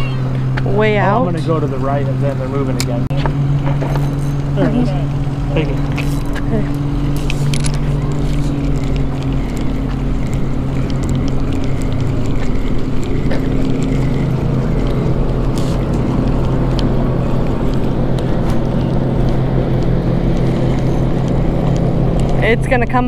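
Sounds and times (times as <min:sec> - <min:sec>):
boat motor droning: 0:00.0 - 0:23.0.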